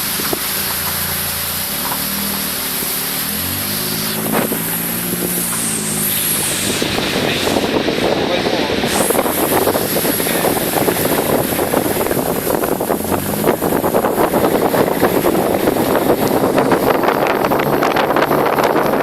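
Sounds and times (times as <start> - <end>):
steady rushing noise: 0.0 - 19.0
wind buffeting microphone: 3.2 - 19.0.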